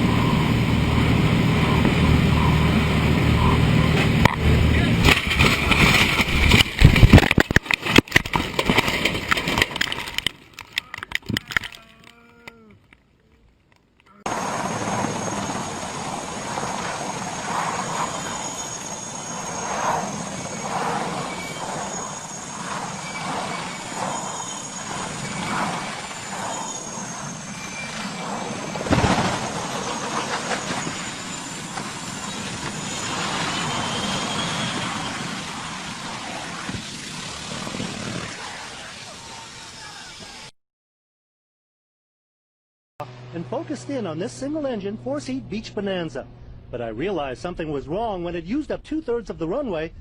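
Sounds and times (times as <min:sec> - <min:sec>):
high wavering whine: 0:00.0 - 0:10.3, 0:14.3 - 0:40.5, 0:43.0 - 0:48.2
aircraft noise: 0:00.0 - 0:12.6, 0:14.1 - 0:40.5, 0:43.0 - 0:49.4.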